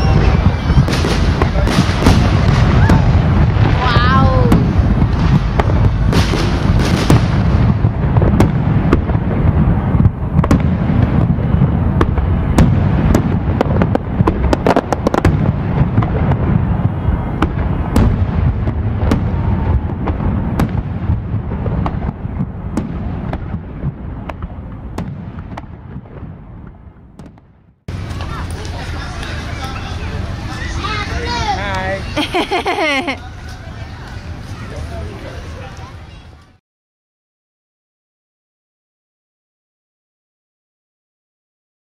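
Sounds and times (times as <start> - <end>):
continuous low rumble: 0.0 - 36.6
fireworks bangs and crackles: 0.0 - 36.6.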